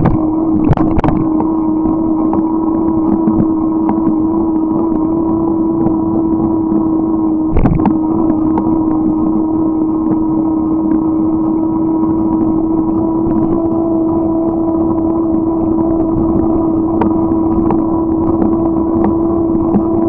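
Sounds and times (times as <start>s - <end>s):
ride motor running: 0.0s - 20.0s.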